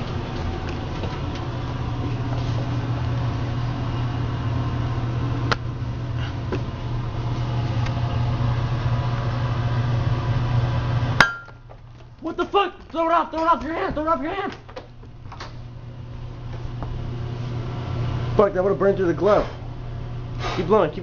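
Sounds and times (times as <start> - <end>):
lab equipment humming: 0.0 - 21.0.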